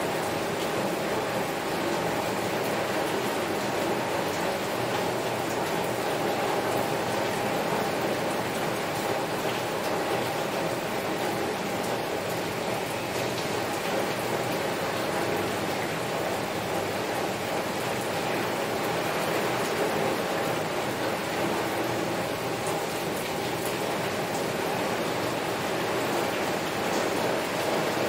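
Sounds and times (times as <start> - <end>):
heavy rain on a window: 0.0 - 28.0.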